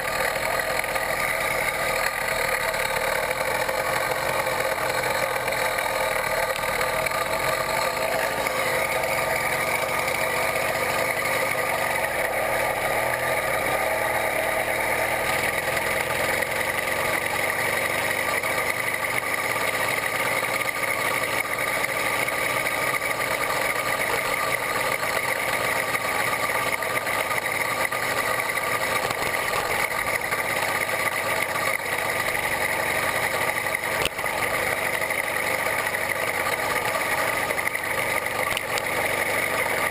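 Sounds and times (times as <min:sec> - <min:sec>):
two-stroke bicycle engine running: 0:00.0 - 0:39.9.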